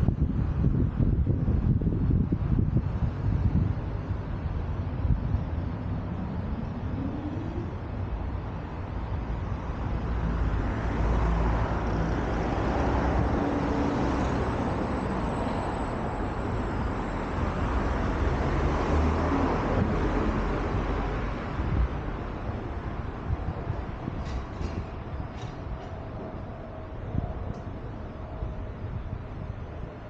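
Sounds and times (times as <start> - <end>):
road vehicle rumble and hiss: 0.0 - 30.0.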